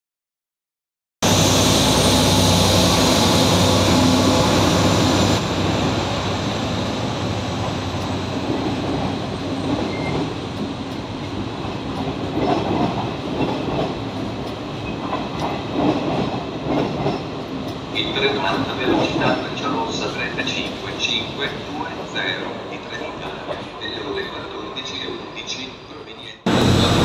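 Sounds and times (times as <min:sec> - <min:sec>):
diesel locomotive engine: 0:01.2 - 0:27.0
passenger coaches rumbling: 0:01.2 - 0:27.0.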